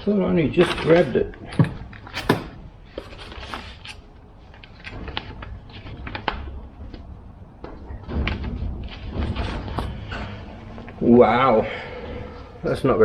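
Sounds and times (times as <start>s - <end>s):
low background rumble: 0.0s - 13.0s
papers rustling: 0.0s - 13.0s.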